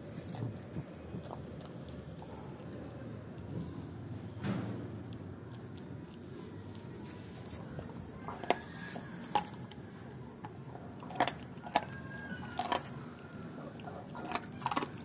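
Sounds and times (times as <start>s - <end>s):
dog chewing: 0.0s - 4.2s, 4.9s - 15.0s.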